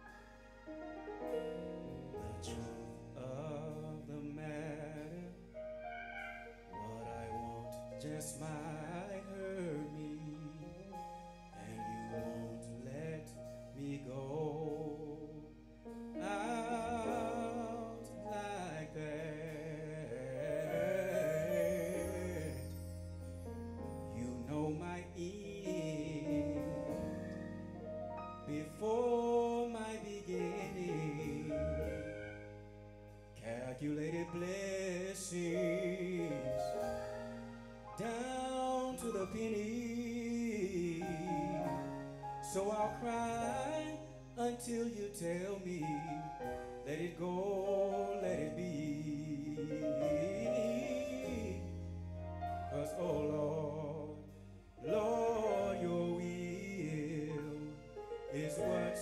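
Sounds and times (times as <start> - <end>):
sustained keyboard chords: 0.0 - 59.0
man singing: 2.1 - 23.0, 24.0 - 27.6, 28.4 - 32.5, 33.4 - 59.0.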